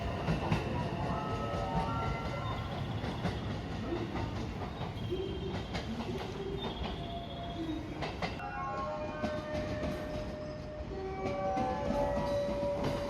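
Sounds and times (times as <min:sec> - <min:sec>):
train rumbling: 0:00.0 - 0:13.0
wheels clicking over rail joints: 0:00.1 - 0:13.0.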